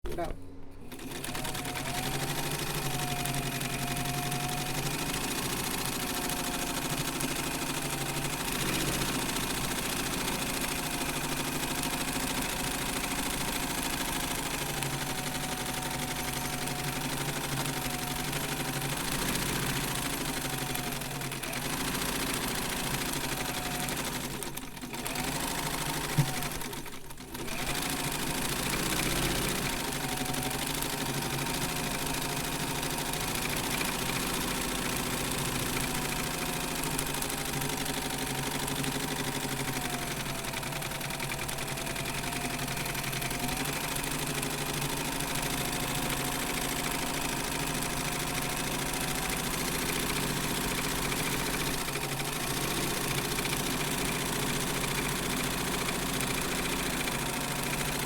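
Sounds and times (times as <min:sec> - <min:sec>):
sewing machine running: 0:00.0 - 0:58.0.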